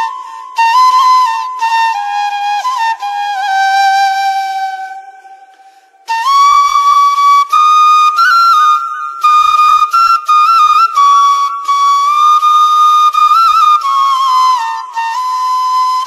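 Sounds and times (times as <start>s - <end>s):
solo flute music: 0.0s - 16.0s.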